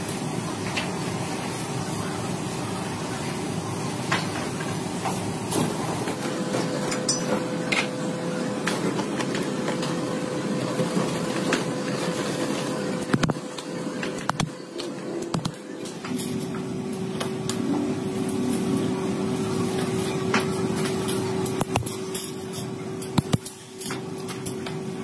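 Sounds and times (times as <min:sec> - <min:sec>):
workshop machinery humming: 0:00.0 - 0:25.0.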